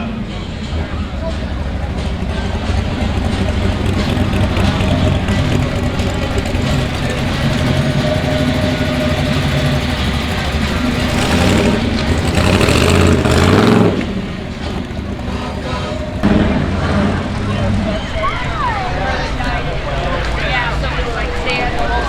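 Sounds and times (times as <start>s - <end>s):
car engine choppy rumble: 0.0s - 22.0s.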